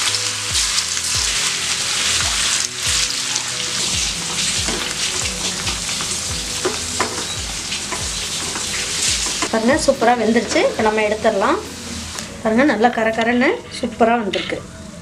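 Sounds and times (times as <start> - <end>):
food deep-frying in oil: 0.0 - 12.7.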